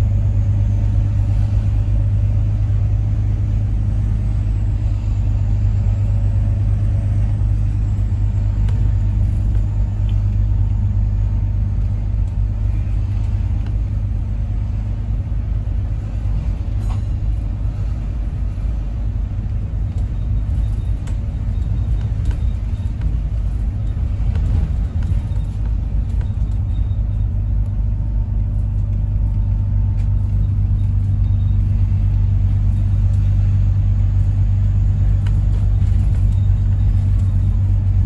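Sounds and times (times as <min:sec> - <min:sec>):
bus engine rumbling: 0:00.0 - 0:38.0.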